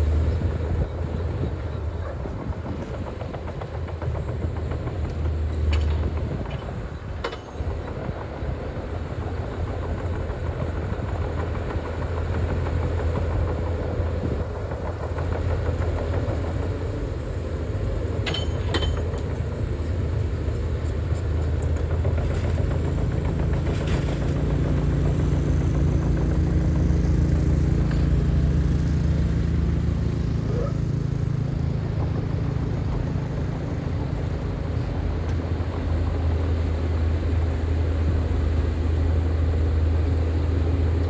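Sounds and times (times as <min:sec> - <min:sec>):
diesel earthmoving machine rumbling: 0:00.0 - 0:41.0.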